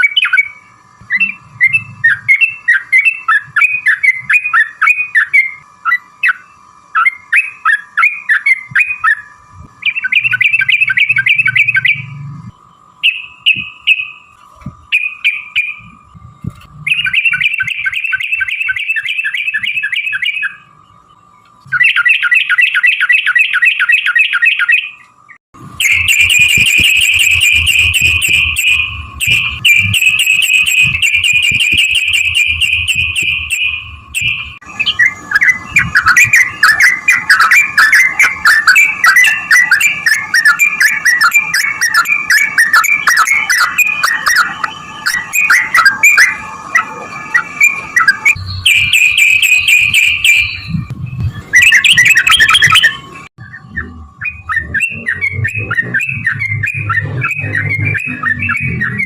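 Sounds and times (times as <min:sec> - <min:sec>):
bird singing rolling trills: 0:00.0 - 0:59.0.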